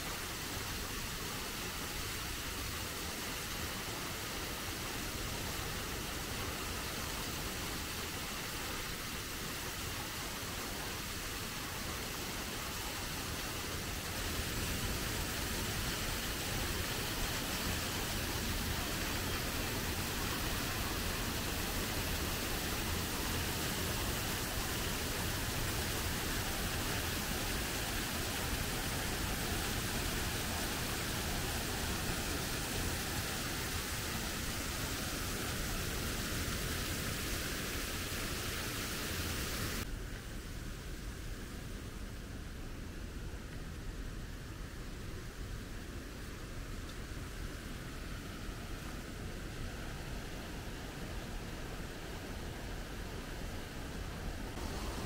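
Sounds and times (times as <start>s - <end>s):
waterfall rushing: 0.0s - 39.8s, 48.3s - 55.0s.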